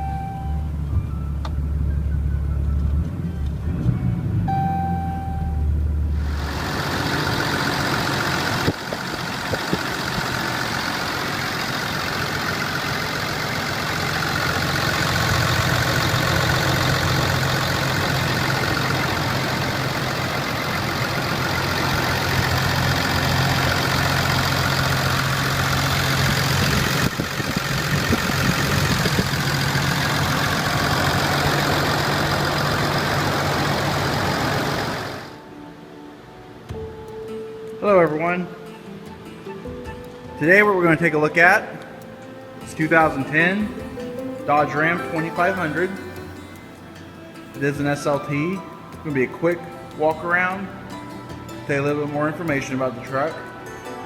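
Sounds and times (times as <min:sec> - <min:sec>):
diesel engine idling: 0:00.0 - 0:35.4, 0:41.5 - 0:53.6.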